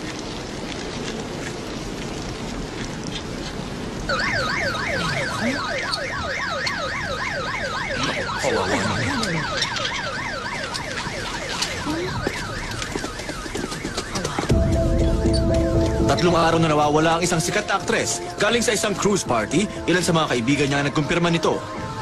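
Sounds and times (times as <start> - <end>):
emergency siren yelping: 4.1 - 22.0.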